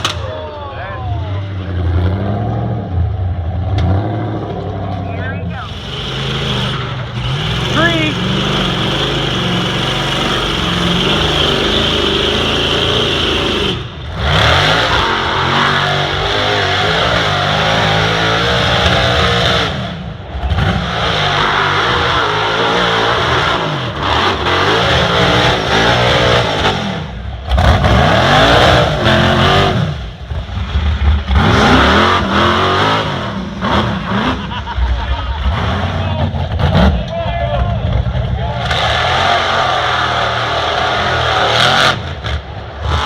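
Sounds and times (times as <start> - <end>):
truck engine revving hard: 1.0 - 43.0.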